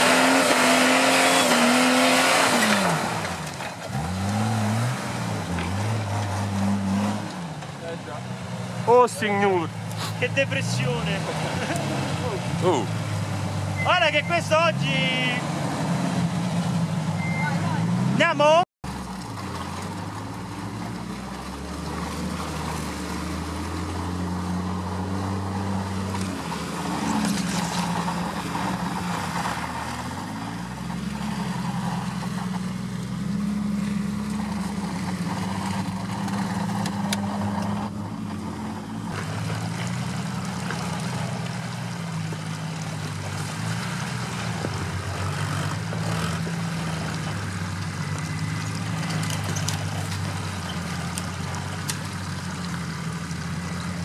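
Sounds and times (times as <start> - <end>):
off-road vehicle engine under load: 0.0 - 54.0.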